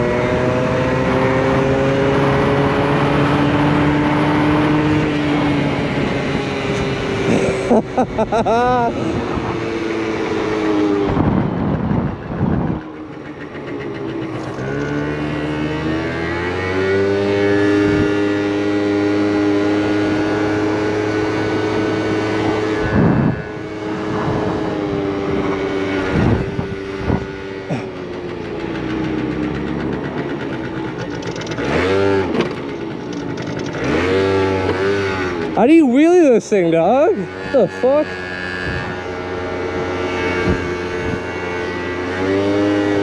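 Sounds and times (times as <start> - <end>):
moped engine revving: 0.0 - 43.0
moped engine running: 0.0 - 43.0.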